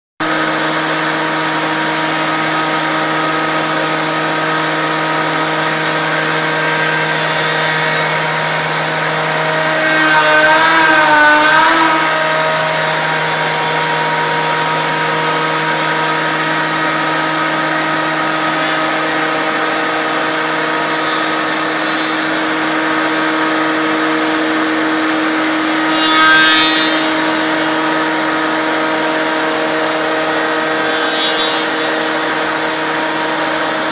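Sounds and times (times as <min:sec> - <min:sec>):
cnc router spindle whine: 0:00.2 - 0:33.9
cutter milling wood hiss: 0:00.3 - 0:33.9.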